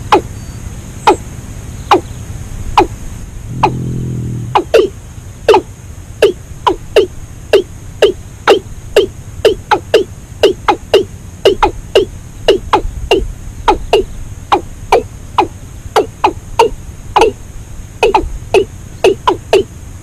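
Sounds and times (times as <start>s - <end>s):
bird calling with dropping notes: 0.0s - 2.2s, 3.5s - 17.4s, 18.0s - 19.7s.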